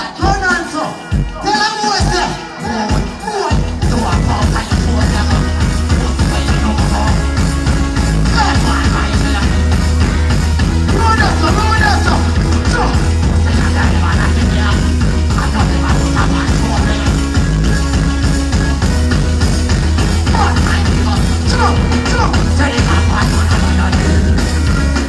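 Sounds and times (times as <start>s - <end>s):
man's voice on microphone: 0.0s - 7.5s, 8.1s - 17.7s, 20.0s - 25.0s
loud dancehall music: 0.0s - 25.0s.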